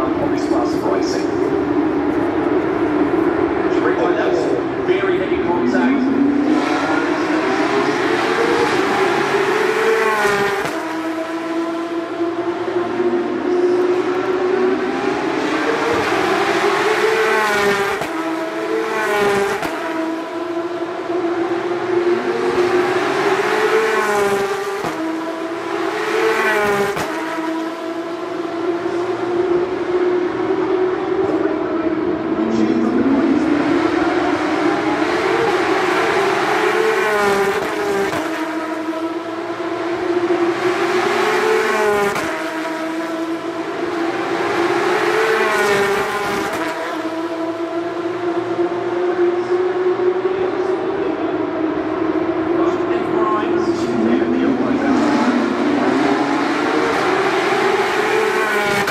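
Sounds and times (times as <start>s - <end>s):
race car engines accelerating: 0.0s - 58.9s.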